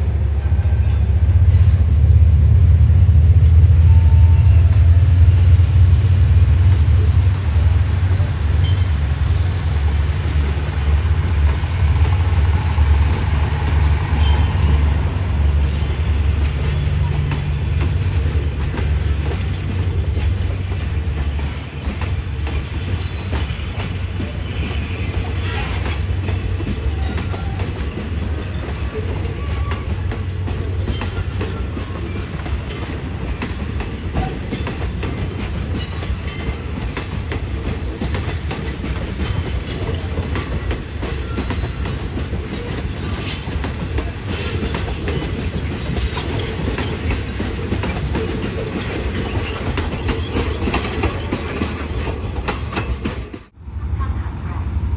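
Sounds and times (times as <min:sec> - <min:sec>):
train engine rumble: 0:00.0 - 0:54.9
wheels clicking over rail joints: 0:04.7 - 0:53.6.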